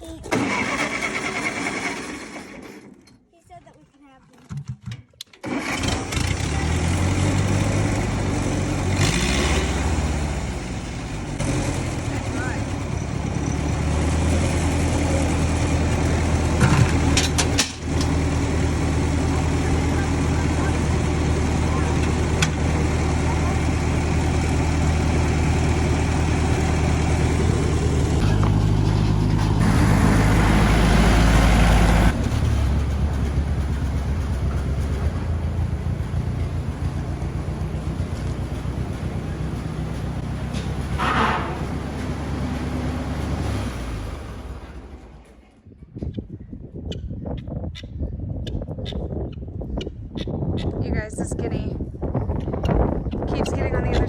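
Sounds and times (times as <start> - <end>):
engine running: 0.0 - 3.1, 5.4 - 45.7, 50.8 - 54.0.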